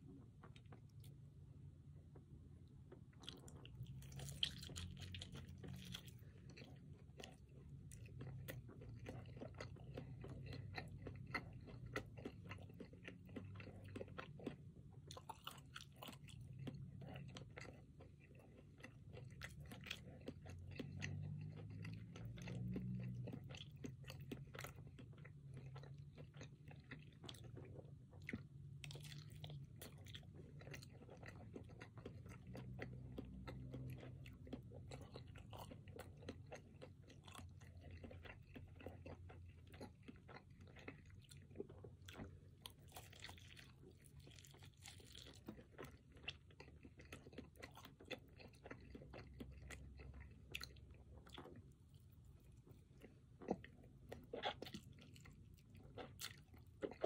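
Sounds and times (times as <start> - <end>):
person chewing crispy chicken: 0.0 - 1.4, 2.1 - 57.0.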